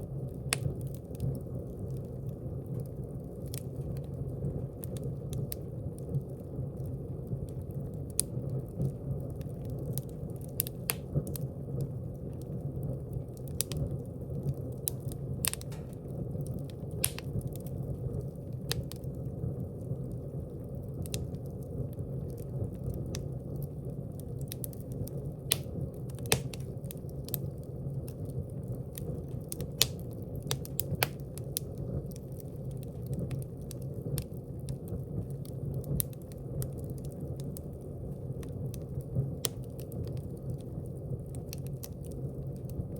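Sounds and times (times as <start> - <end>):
burning logs crackling and popping: 0.0 - 42.9
fire flames rushing: 0.0 - 42.9.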